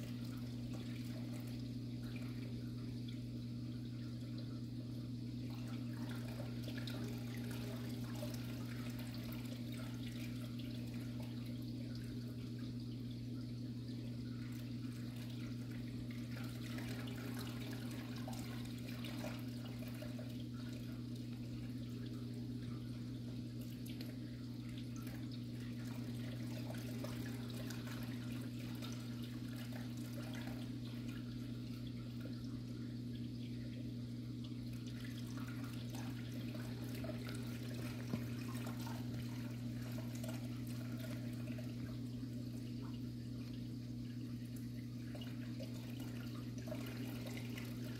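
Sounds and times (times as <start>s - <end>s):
aquarium pump humming: 0.0s - 47.9s
water trickling: 0.0s - 47.9s.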